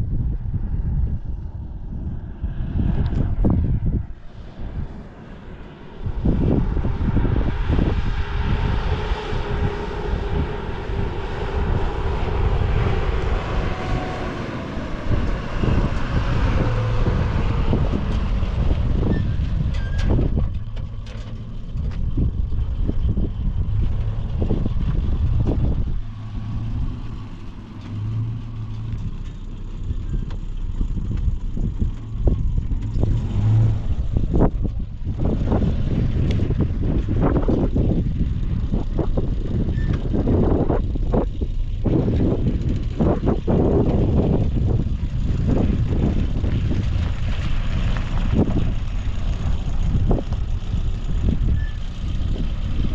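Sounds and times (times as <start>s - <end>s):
faint engine whine: 0.0s - 52.9s
vehicle engine rumble: 0.0s - 52.9s.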